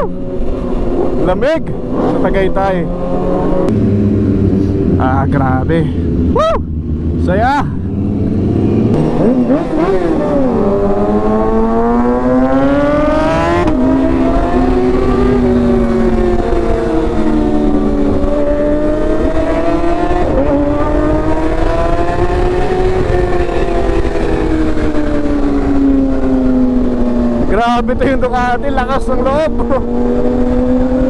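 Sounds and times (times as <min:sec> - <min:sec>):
motorcycle engine accelerating: 0:00.0 - 0:31.0
wind rumble: 0:00.0 - 0:31.0.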